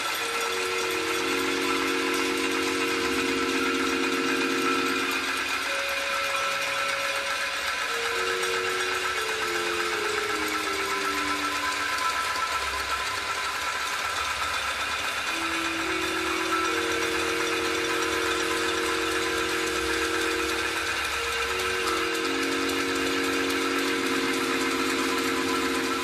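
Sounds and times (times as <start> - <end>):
ambient noise music: 0.0 - 26.0.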